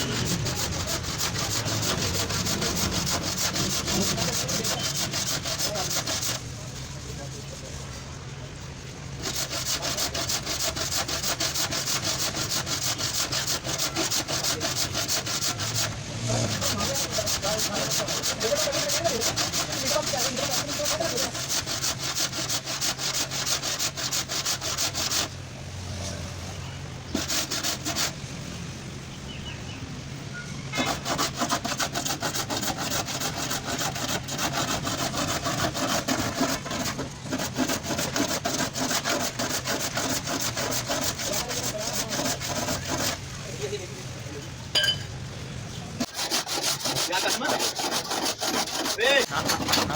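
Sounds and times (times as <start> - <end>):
sanding on a car body panel: 0.0 - 25.5, 27.1 - 28.5, 30.8 - 43.8, 46.0 - 49.9.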